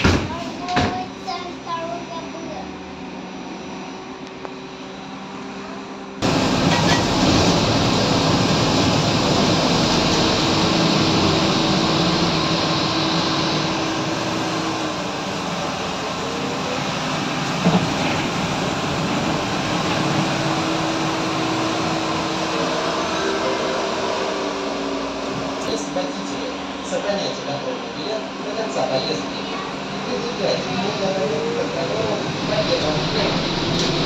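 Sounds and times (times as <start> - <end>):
bus cabin rumble: 0.0 - 34.0.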